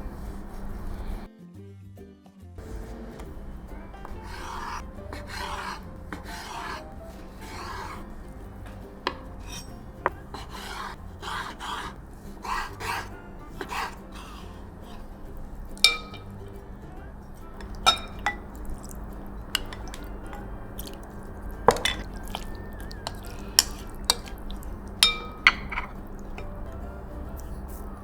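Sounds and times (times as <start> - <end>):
quiet background music: 0.0 - 28.0
utensils clinking on dishes: 2.6 - 28.0.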